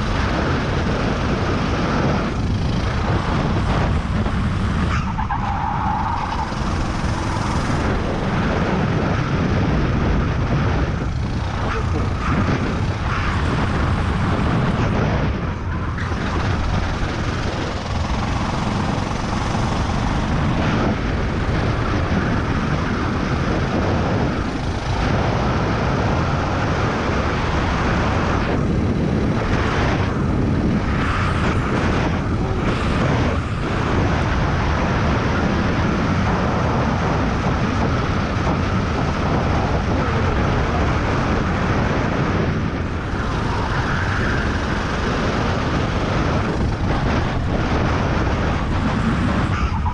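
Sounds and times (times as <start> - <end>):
kart engine running hard: 0.0 - 49.9.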